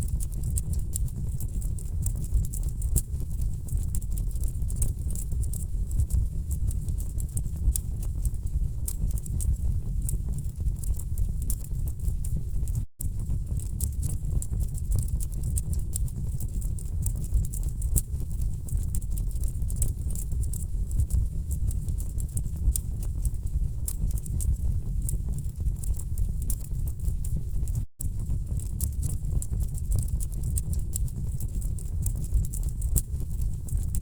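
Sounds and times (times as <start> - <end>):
low rumble of flame: 0.0 - 34.0.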